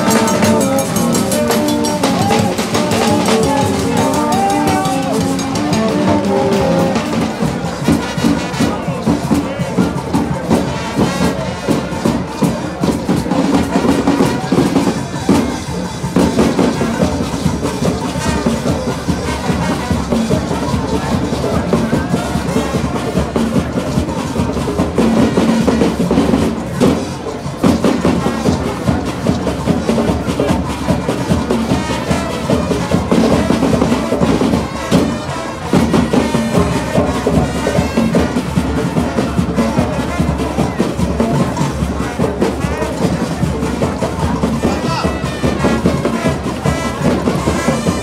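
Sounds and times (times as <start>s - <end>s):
brass: 0.0s - 24.4s, 25.0s - 48.0s
drumming and percussion: 0.0s - 48.0s.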